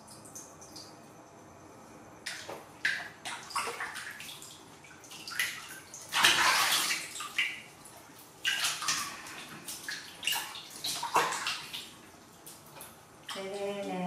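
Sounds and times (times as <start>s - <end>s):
water splashing in plastic basin: 2.3s - 14.0s.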